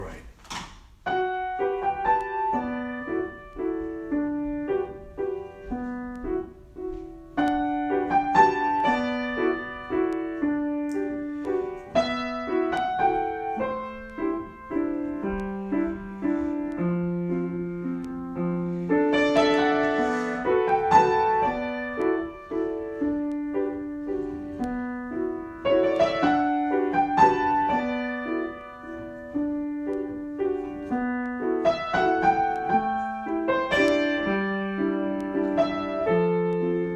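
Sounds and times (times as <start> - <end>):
piano improvisation: 0.0 - 36.9.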